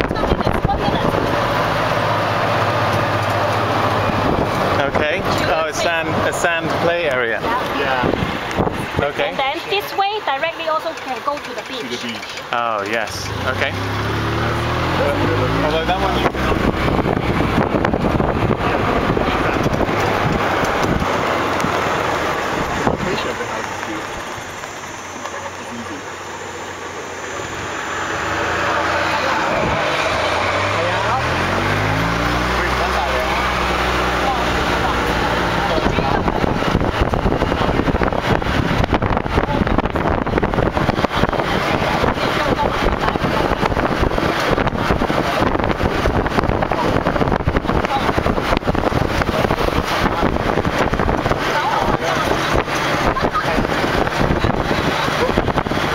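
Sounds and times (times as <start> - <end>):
wind buffeting microphone: 0.0 - 11.7, 13.3 - 25.6, 26.2 - 55.9
vehicle road noise: 0.0 - 55.9.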